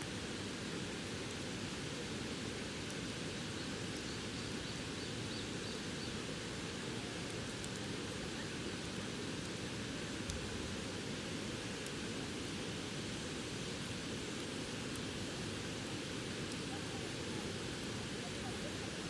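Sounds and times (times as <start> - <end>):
campfire crackles: 0.0 - 19.0.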